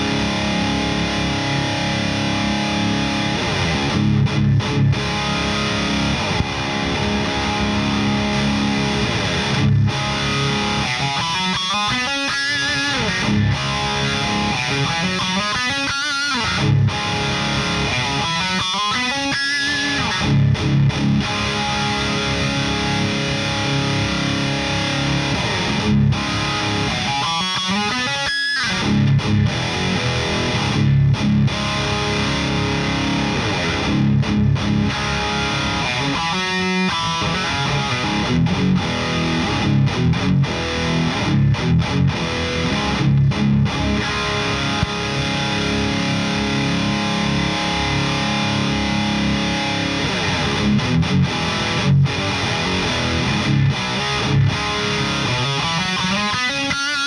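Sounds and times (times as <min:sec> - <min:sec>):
distorted electric guitar riffs: 0:00.0 - 0:57.0
guitar sweeping slide: 0:00.0 - 0:57.0.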